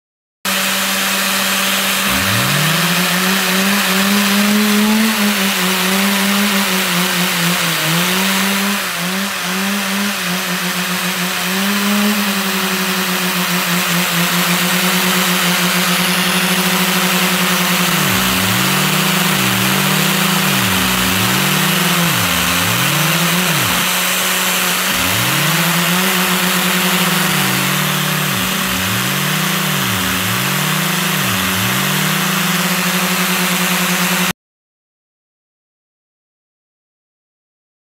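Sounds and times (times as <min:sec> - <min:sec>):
turbine whirring: 0:00.5 - 0:08.0, 0:10.1 - 0:34.3.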